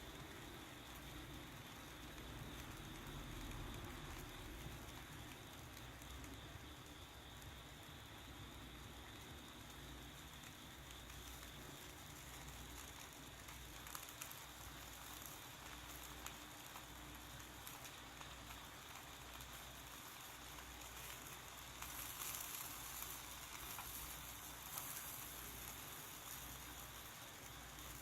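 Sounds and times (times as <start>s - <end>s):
fire crackling and popping: 0.0s - 28.0s
fire hissing: 0.0s - 28.0s.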